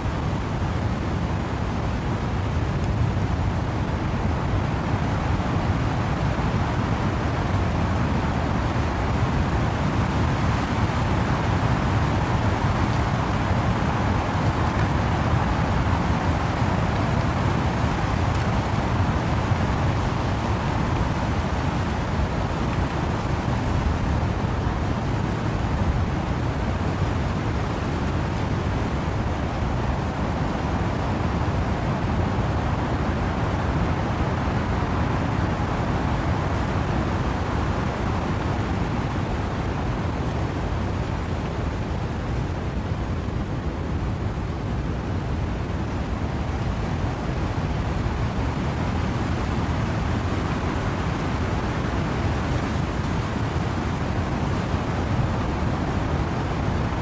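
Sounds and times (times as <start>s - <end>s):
wind and rain through trees: 0.0s - 57.0s.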